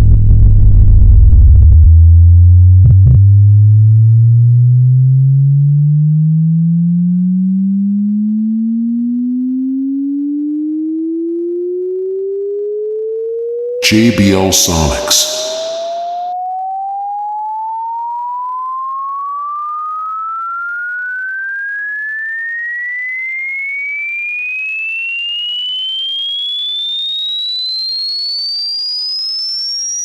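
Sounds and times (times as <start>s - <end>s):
sine test tone sweeping upward: 0.0s - 13.8s, 15.2s - 30.0s.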